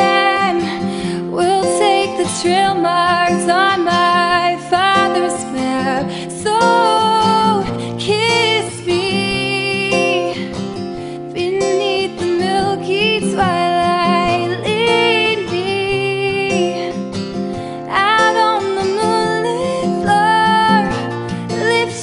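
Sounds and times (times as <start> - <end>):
pop song with acoustic guitar: 0.0 - 22.0.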